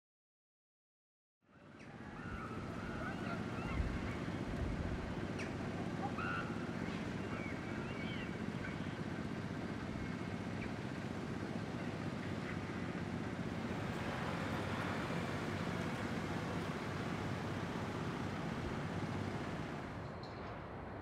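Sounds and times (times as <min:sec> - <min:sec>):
distant road traffic: 0:01.5 - 0:21.0.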